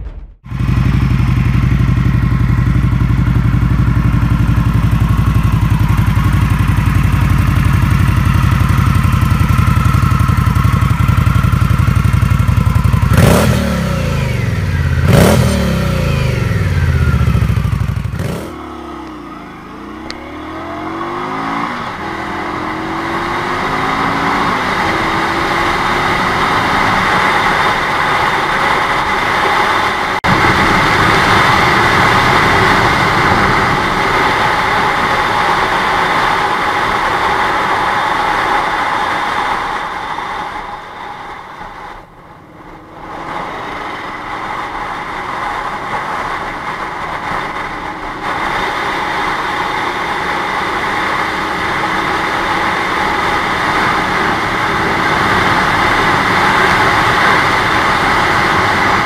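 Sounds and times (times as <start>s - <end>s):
motorcycle engine idling and revving: 0.0s - 59.0s
wind rush: 0.0s - 59.0s
motorcycle accelerating on road: 0.4s - 59.0s.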